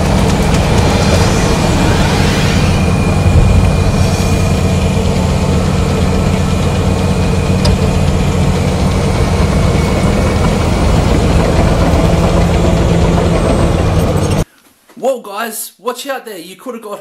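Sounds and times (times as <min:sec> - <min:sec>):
bulldozer diesel engine droning: 0:00.0 - 0:14.4.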